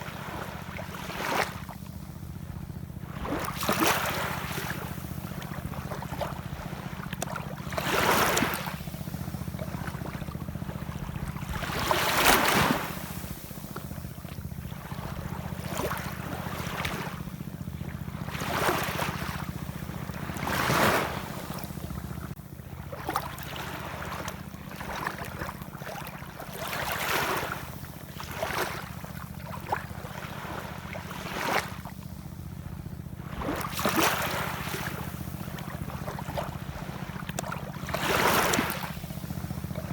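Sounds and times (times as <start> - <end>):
ocean waves washing in: 2.4 - 31.8, 33.2 - 39.9.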